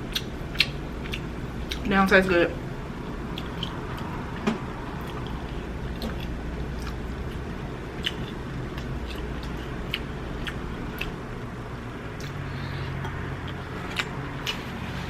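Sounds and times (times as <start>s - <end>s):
person chewing and lip smacking: 0.0s - 1.9s, 3.2s - 11.4s, 12.0s - 14.9s
low steady hum: 0.0s - 15.0s.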